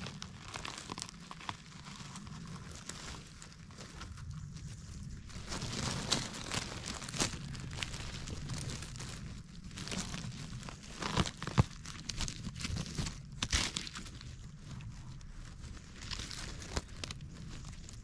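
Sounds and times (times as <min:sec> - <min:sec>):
twigs snapping: 0:00.0 - 0:04.3, 0:05.4 - 0:14.5, 0:15.1 - 0:18.0
hand rustling through dry needles: 0:00.0 - 0:18.0.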